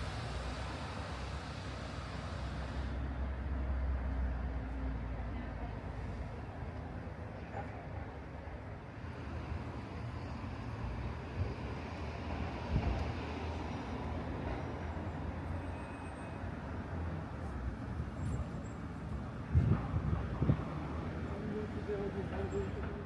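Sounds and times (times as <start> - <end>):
low traffic rumble: 0.0 - 23.0.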